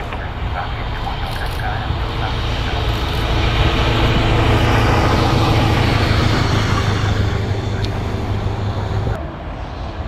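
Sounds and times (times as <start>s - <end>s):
diesel locomotive passing: 0.0s - 10.0s.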